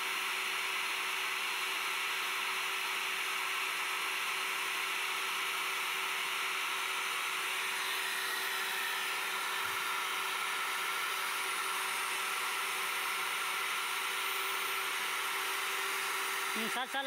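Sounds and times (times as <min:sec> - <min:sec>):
core drill grinding concrete: 0:00.0 - 0:17.0.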